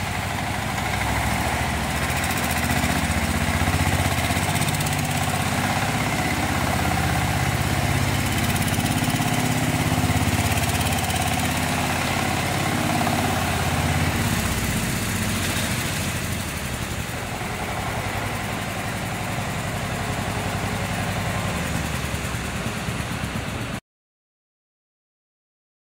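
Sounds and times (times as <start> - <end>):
tractor engine running: 0.0 - 23.8.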